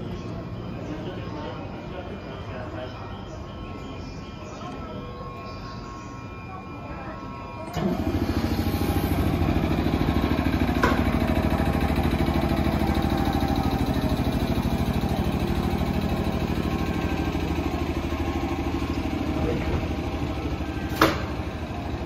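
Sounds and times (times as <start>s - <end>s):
electric train motor hum: 0.0s - 22.0s
wheel and rail noise: 0.0s - 22.0s.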